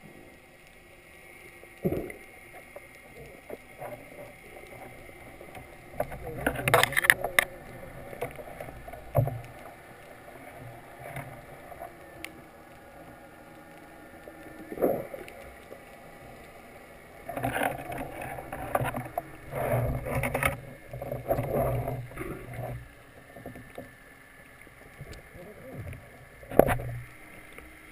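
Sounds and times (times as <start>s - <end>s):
muffled underwater wash: 0.0s - 27.9s.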